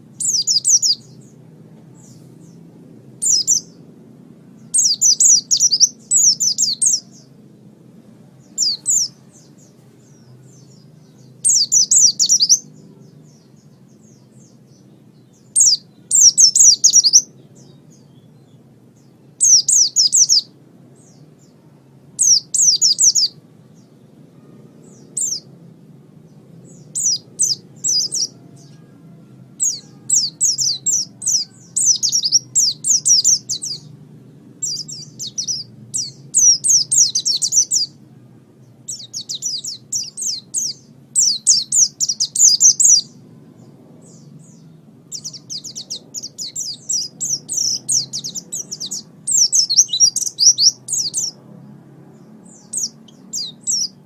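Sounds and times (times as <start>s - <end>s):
bird singing high chirps: 0.0s - 3.9s, 4.5s - 7.4s, 8.3s - 25.6s, 26.3s - 34.0s, 34.6s - 51.4s, 52.1s - 54.0s.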